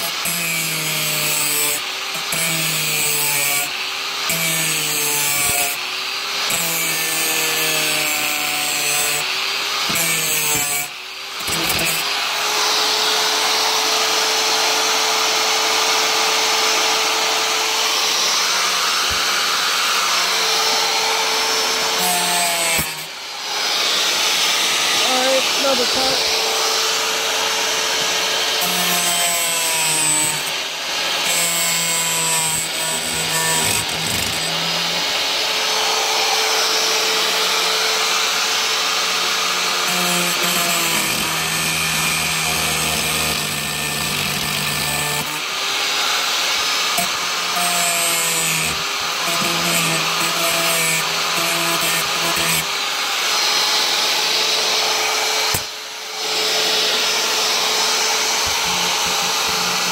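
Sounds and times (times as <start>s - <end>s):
power tool cutting plastic panel: 0.0s - 59.9s.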